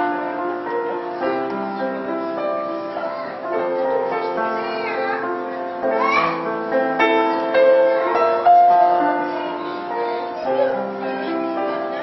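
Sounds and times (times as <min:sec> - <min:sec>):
piano melody over chords: 0:00.0 - 0:12.0.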